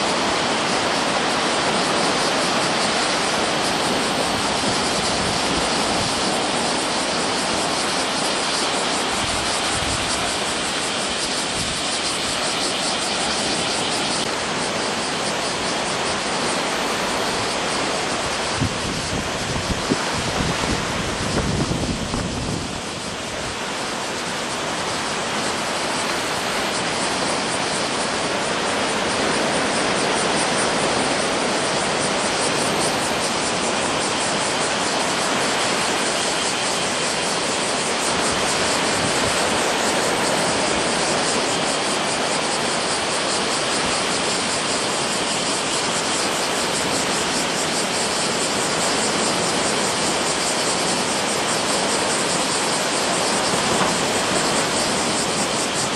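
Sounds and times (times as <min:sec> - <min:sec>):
ocean surf roaring: 0:00.0 - 0:55.9
wind buffeting microphone: 0:00.0 - 0:55.9.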